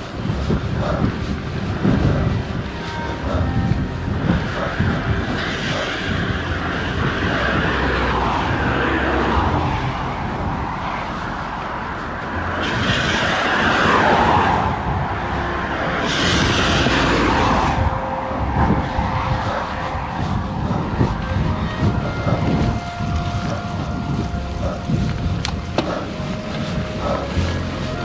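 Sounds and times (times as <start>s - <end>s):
cars swishing past on wet road: 0.0s - 28.0s
wind rumbling on microphone: 0.0s - 28.0s.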